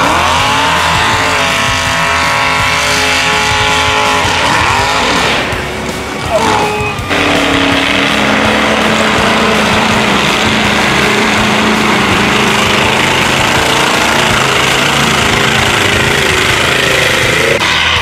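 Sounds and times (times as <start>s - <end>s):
engine revving hard: 0.0s - 18.0s
tyres churning through mud: 0.0s - 18.0s.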